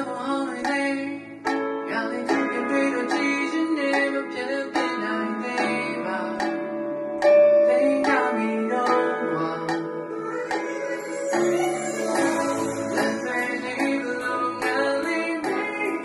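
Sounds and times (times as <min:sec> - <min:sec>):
guitar plucked: 0:00.0 - 0:16.0
man singing into microphone: 0:00.0 - 0:16.0.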